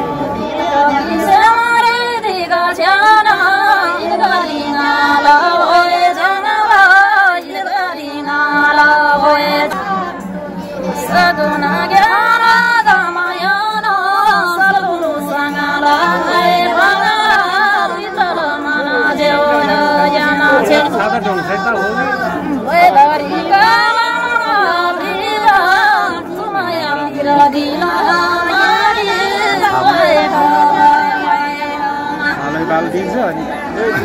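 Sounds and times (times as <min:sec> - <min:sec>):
woman singing folk song: 0:00.4 - 0:10.2, 0:10.9 - 0:21.0, 0:22.5 - 0:32.4.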